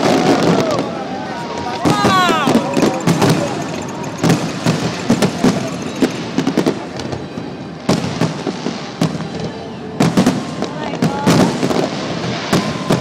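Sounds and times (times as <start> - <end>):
firework bangs and crackles: 0.0 - 13.0.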